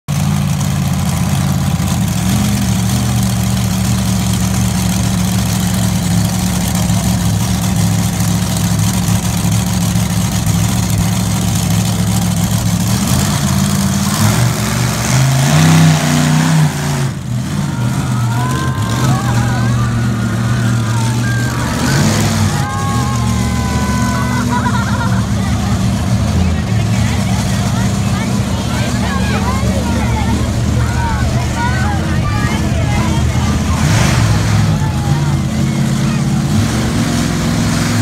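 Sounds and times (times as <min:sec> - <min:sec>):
truck engine idling and revving: 0:00.0 - 0:38.0.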